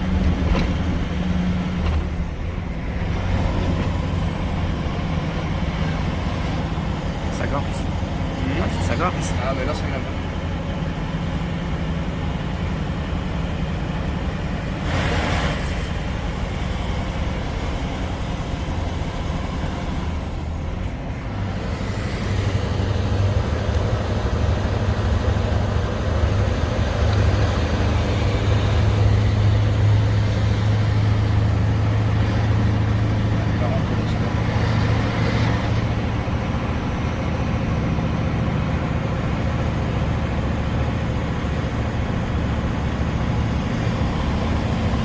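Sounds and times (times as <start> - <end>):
diesel truck engine drone: 0.0 - 45.0.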